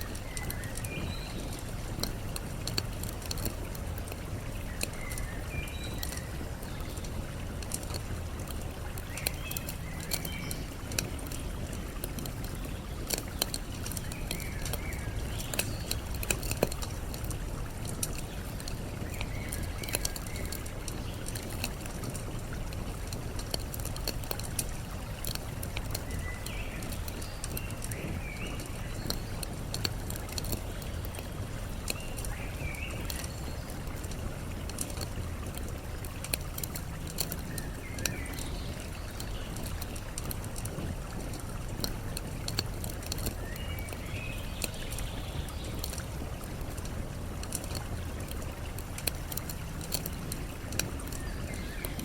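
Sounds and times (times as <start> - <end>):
flowing water: 0.0 - 52.0
small birds chirping: 0.0 - 52.0
wood fire crackling and popping: 0.0 - 52.0.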